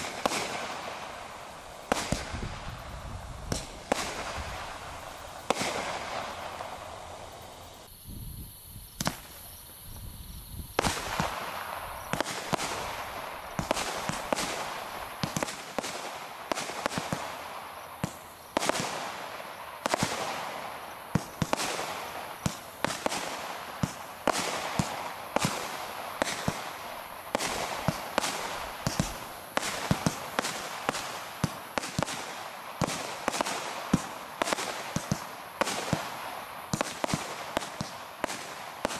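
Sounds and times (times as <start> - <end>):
firework cake shots firing: 0.0 - 7.8, 10.8 - 38.9.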